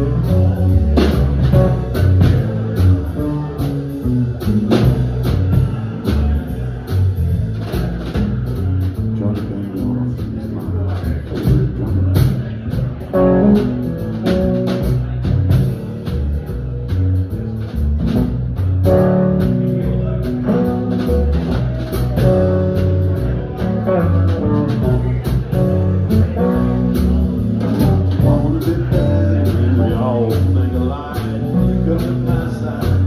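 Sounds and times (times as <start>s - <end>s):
drum kit beat: 0.0s - 33.0s
electric bass line: 0.0s - 33.0s.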